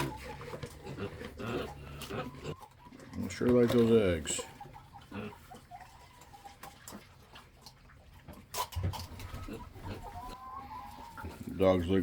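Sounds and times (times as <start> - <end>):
pigs chewing and snuffling: 0.0 - 12.0.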